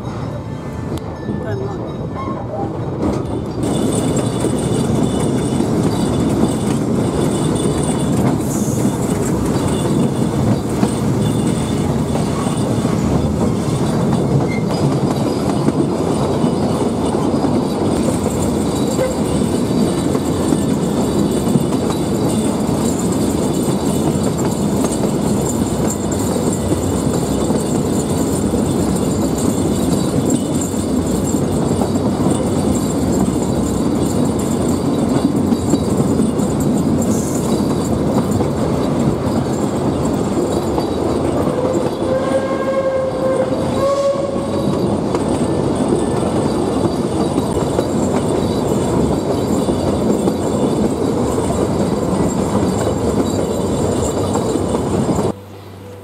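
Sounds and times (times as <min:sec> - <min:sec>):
train carriages rumbling over rails: 0:00.0 - 0:56.0
wheels squealing: 0:01.2 - 0:56.0.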